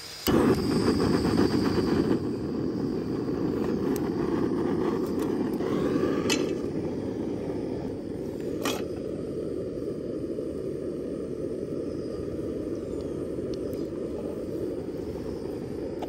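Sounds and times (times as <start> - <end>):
gas stove burning hiss: 0.0 - 16.0.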